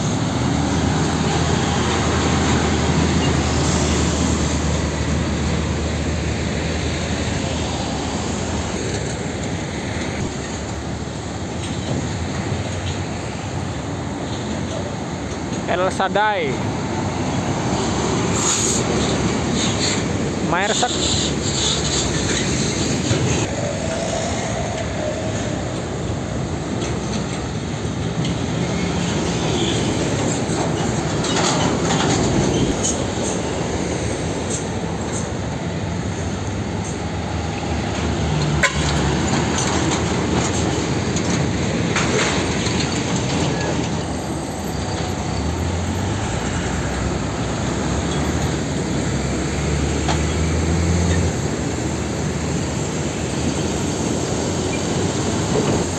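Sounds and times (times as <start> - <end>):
trucks driving past: 0.0 - 55.9
tyres and traffic rumble: 0.0 - 55.9.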